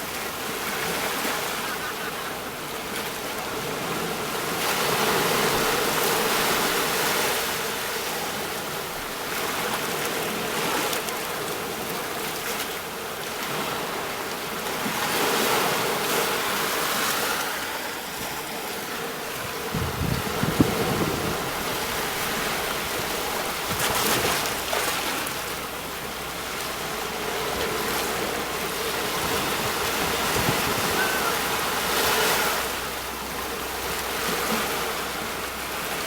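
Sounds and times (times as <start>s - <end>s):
sea waves breaking on shore: 0.0s - 36.0s.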